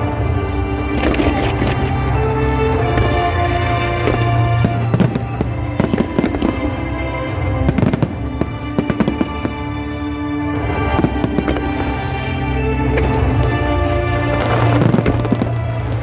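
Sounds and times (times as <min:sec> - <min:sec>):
background music with held tones: 0:00.0 - 0:16.0
fireworks bangs and crackles: 0:00.0 - 0:16.0.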